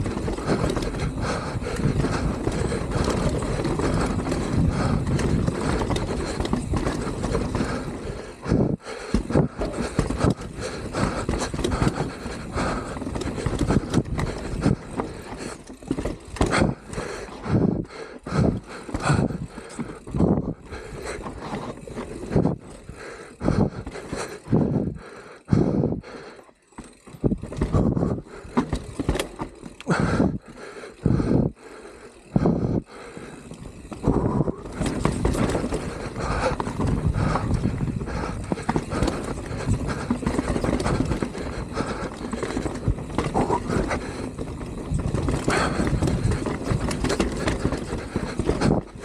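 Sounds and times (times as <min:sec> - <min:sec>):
bike rattling over bumps: 0:00.0 - 0:49.0
bike tyre noise on trail: 0:00.0 - 0:49.0.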